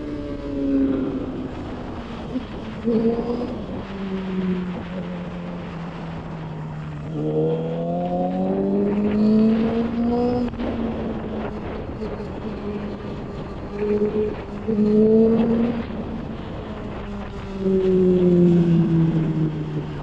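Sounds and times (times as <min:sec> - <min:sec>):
motorcycle engine accelerating: 0:00.0 - 0:20.0
wind noise on microphone: 0:00.0 - 0:20.0.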